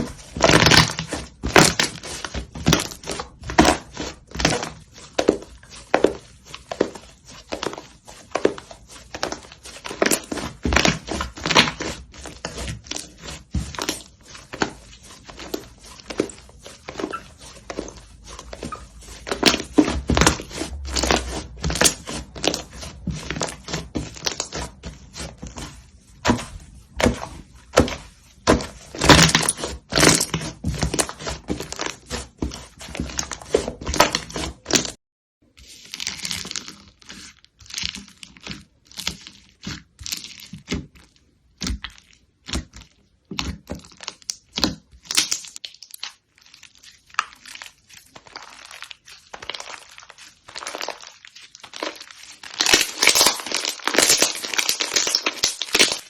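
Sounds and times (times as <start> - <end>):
slime squishing by hand: 0.0 - 56.0.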